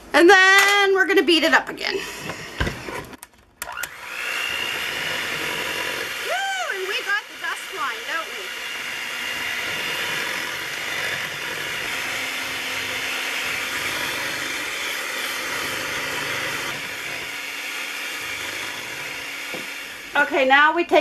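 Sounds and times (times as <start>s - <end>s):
electric hand mixer whisking batter: 3.7s - 21.0s.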